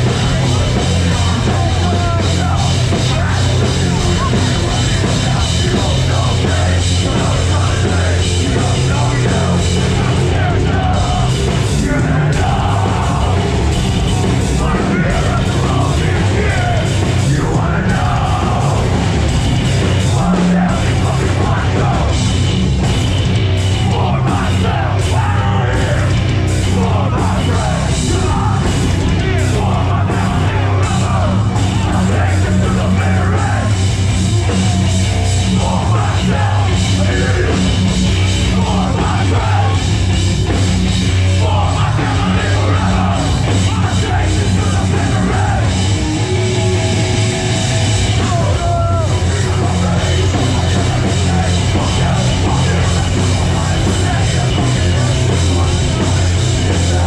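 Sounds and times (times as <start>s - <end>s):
bass guitar: 0.0s - 57.0s
distorted guitars: 0.0s - 57.0s
drums: 0.0s - 57.0s
shouted lead vocal: 0.0s - 57.0s.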